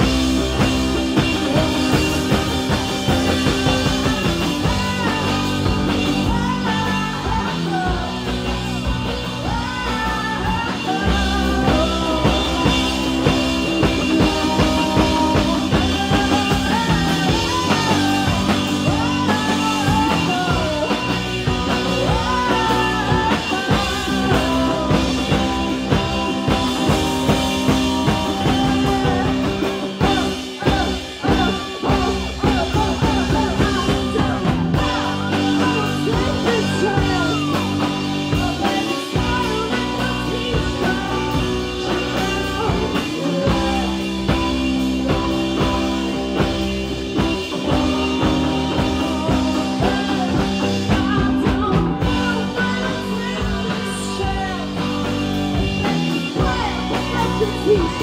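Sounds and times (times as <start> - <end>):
electric guitar bass and drums: 0.0 - 58.0
woman singing rock song: 0.0 - 58.0.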